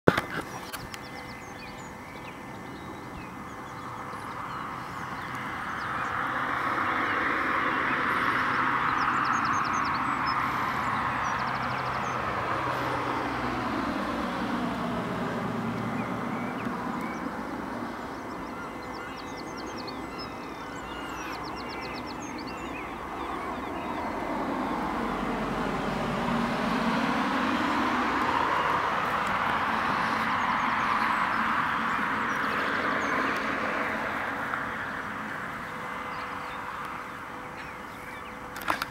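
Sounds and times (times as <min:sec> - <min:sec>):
distant rushing noise: 0:03.2 - 0:38.9.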